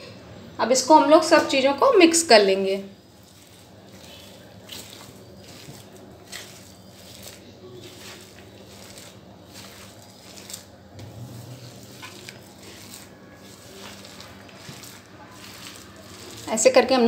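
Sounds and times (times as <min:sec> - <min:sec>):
hand squishing batter in bowl: 0:01.7 - 0:17.0.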